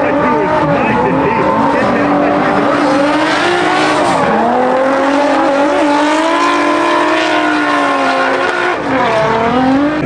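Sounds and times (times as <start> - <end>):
car engines at high revs: 0.0 - 10.0.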